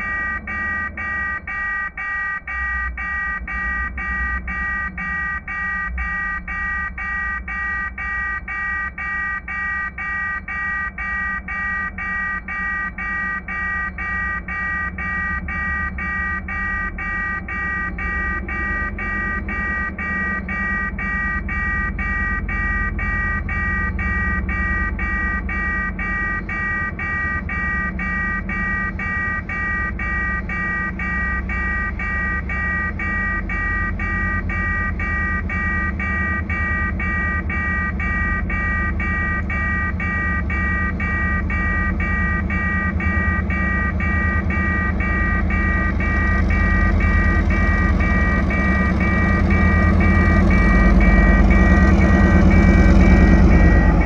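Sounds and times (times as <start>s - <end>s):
diesel locomotive rumble: 0.0s - 54.0s.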